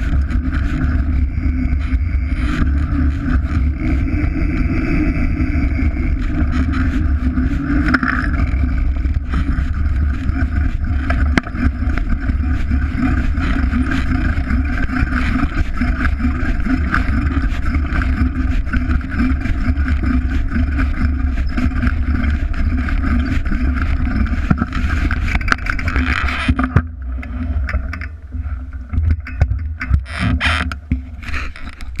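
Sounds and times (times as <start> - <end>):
wind buffeting microphone: 0.0 - 26.4
tyres rolling over gravel: 0.0 - 26.8
bike rattling clicks: 0.0 - 28.3, 28.9 - 32.0.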